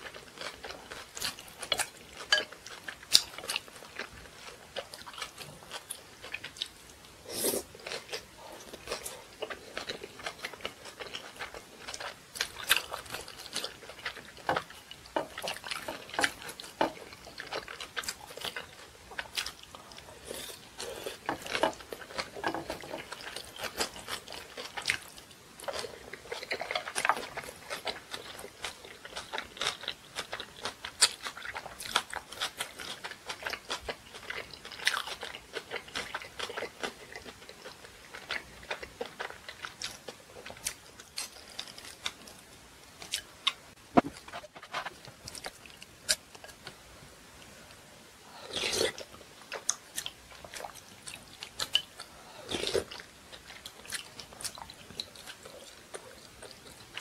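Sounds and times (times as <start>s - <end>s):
person chewing food: 0.0s - 46.8s, 47.4s - 57.0s.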